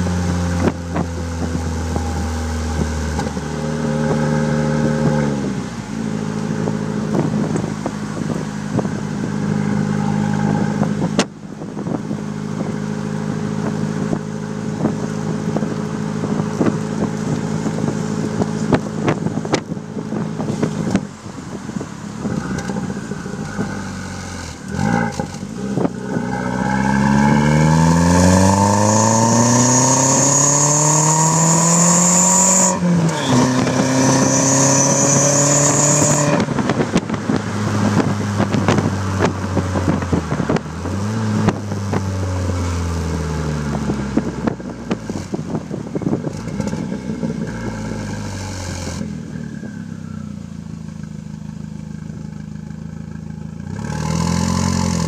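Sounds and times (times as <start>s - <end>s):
car engine exhaust revving and idling: 0.0s - 55.0s.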